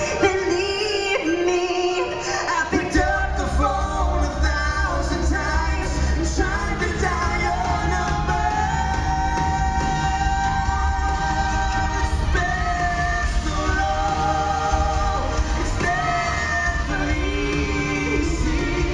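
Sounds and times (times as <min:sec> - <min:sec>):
band playing pop-country ballad: 0:00.0 - 0:18.9
man and woman singing duet: 0:00.0 - 0:18.9.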